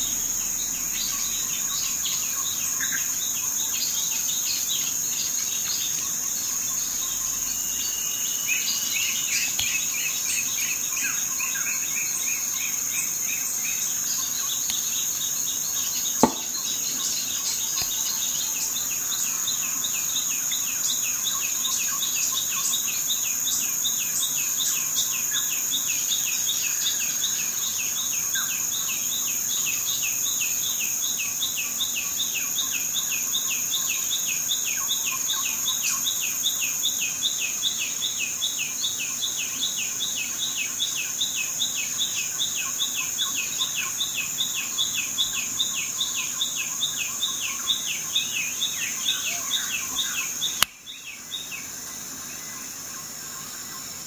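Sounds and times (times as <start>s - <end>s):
high-pitched insect whine: 0.0s - 54.0s
insects chirping: 0.0s - 54.0s.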